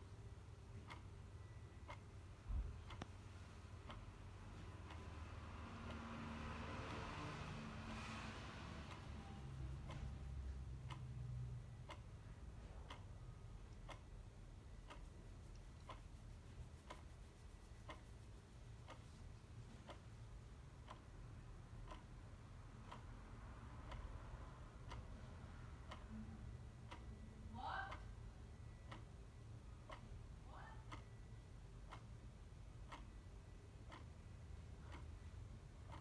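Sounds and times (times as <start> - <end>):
clock ticking: 0.0 - 36.0.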